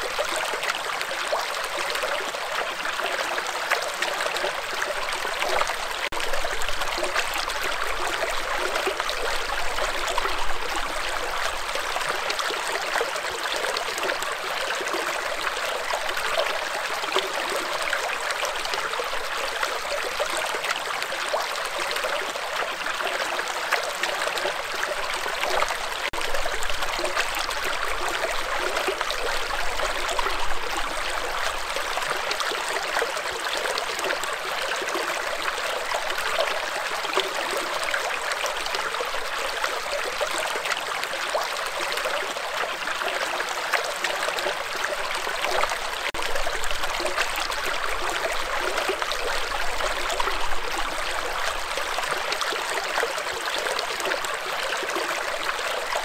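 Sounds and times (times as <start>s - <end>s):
stream rippling over rocks: 0.0s - 56.0s.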